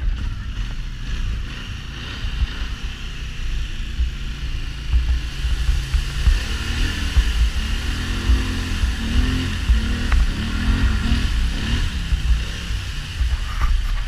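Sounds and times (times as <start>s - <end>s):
heavy low rumble: 0.0s - 14.0s
off-road vehicle engine revving: 0.0s - 14.0s.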